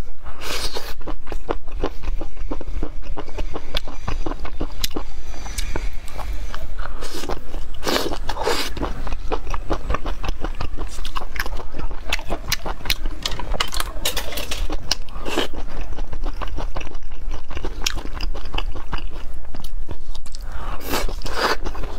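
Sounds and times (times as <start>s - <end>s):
steady low hum: 0.0s - 21.9s
wet chewing and biting: 0.4s - 21.9s.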